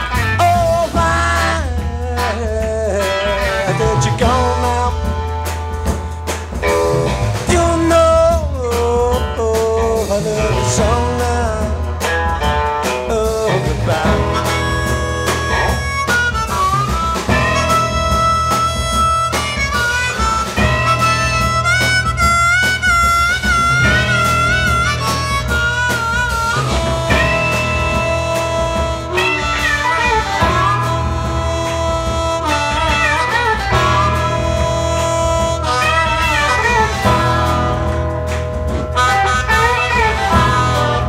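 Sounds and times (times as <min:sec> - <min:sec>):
bass and drums: 0:00.0 - 0:41.0
blues harmonica solo: 0:00.0 - 0:41.0.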